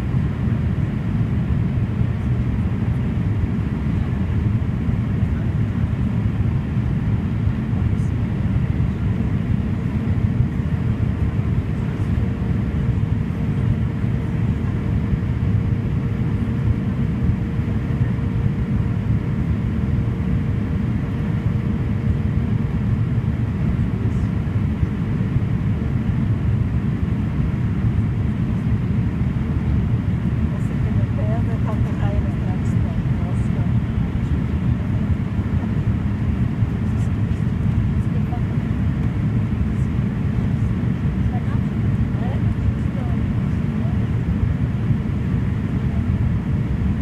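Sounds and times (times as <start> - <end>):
faint steady hum: 0.0 - 47.0
turboprop engine cabin drone: 0.0 - 47.0.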